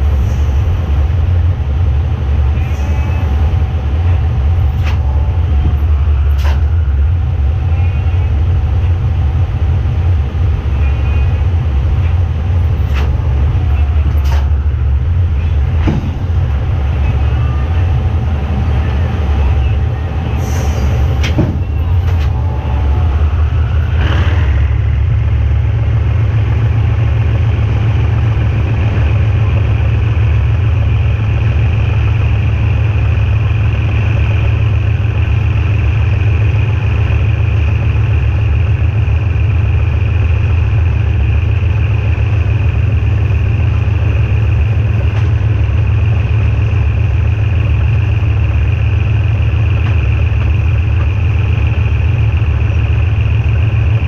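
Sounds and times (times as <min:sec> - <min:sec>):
high whine: 0:00.0 - 0:54.0
locomotive engine droning: 0:00.0 - 0:54.0.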